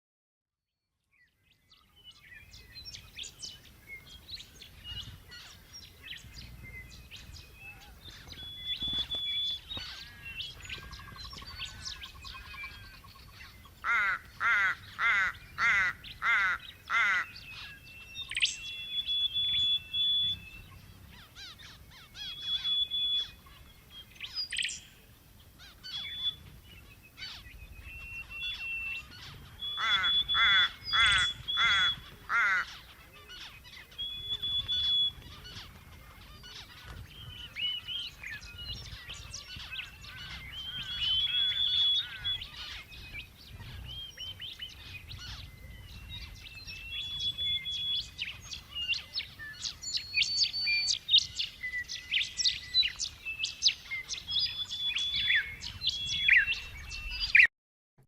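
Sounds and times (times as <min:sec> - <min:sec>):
birds chirping and whistling: 0:01.2 - 0:57.5
loud bird calls: 0:01.7 - 0:57.5.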